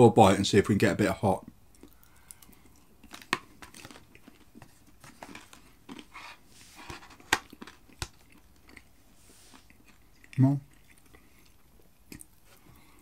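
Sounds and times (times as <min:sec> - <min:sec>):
person chewing food: 0:01.4 - 0:13.0.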